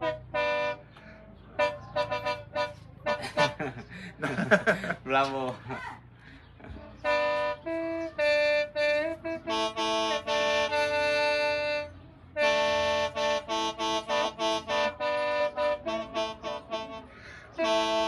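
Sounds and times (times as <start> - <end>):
mouth organ chords: 0.0 - 5.0, 6.7 - 18.0.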